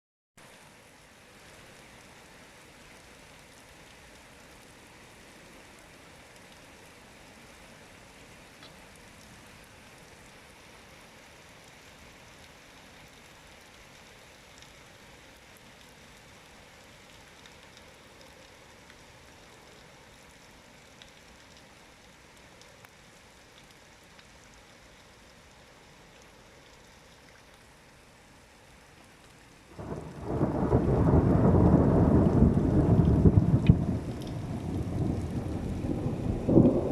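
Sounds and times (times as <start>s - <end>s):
faint rain: 0.4s - 36.9s
rain drops ticking: 0.4s - 36.9s.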